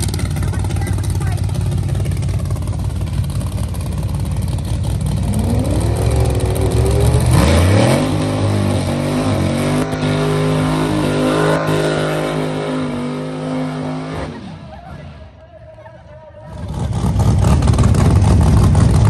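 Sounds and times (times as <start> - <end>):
race car engine revving: 0.0 - 15.4, 16.4 - 19.0.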